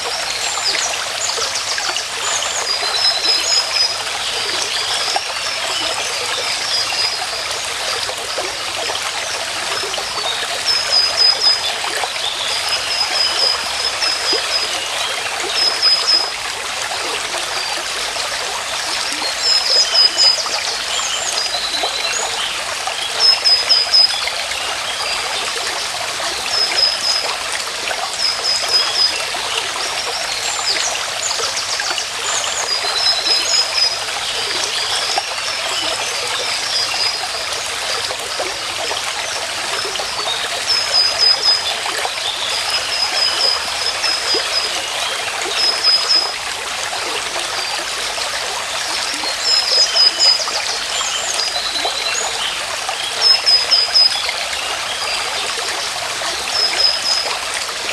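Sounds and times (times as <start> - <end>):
stream water trickling: 0.0 - 57.9.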